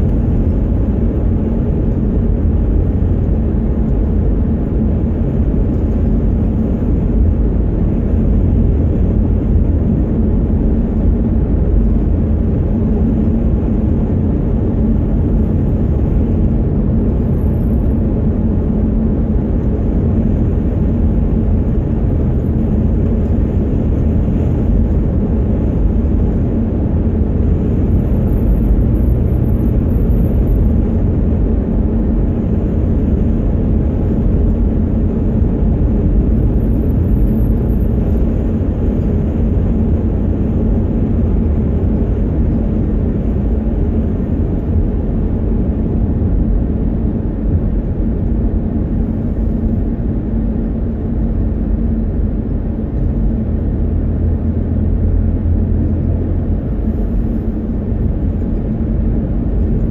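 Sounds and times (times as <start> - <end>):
road and engine noise in car cabin: 0.0 - 59.9.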